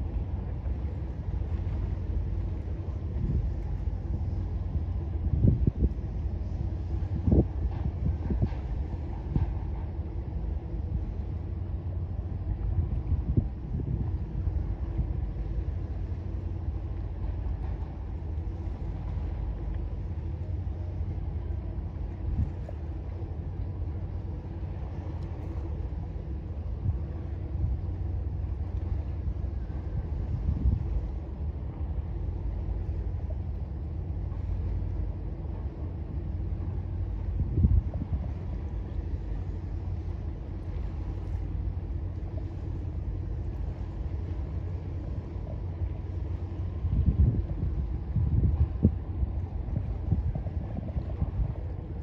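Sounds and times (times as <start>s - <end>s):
boat engine rumble: 0.0s - 52.0s
faint steady hum: 0.0s - 52.0s
wind buffeting microphone: 0.0s - 52.0s.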